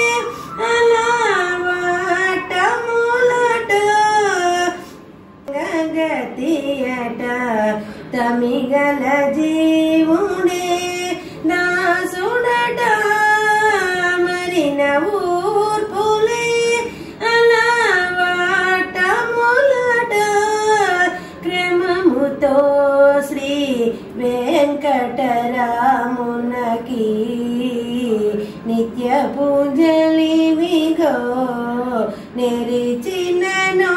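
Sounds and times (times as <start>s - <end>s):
woman singing solo: 0.0s - 33.9s.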